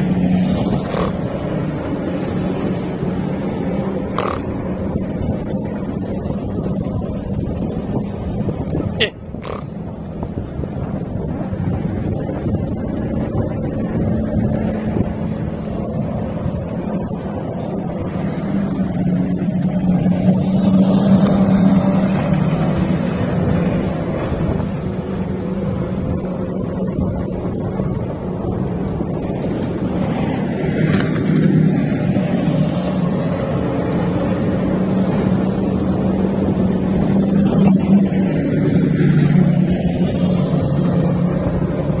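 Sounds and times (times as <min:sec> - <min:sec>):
power boat engine drone: 0:00.0 - 0:42.0.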